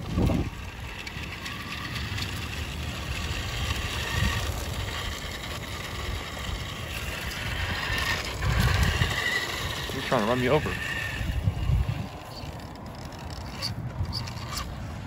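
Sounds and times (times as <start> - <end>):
low uneven rumble: 0.0 - 15.0
toy car electric motor whir: 0.0 - 15.0
wheels hissing on road: 0.0 - 15.0.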